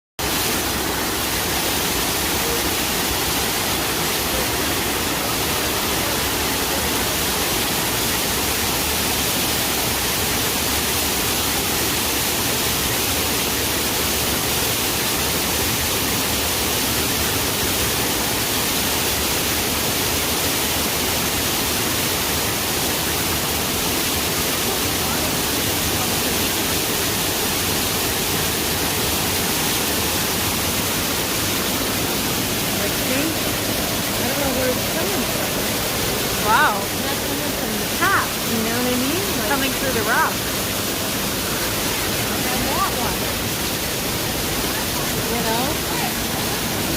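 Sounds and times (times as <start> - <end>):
waterfall rushing over rock: 0.2 - 46.9.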